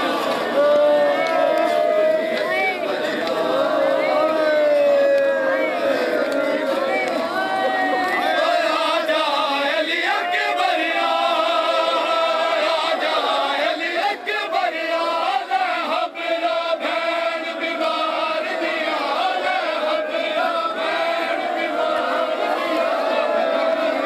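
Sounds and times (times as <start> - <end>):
crowd of men chanting: 0.0 - 24.0.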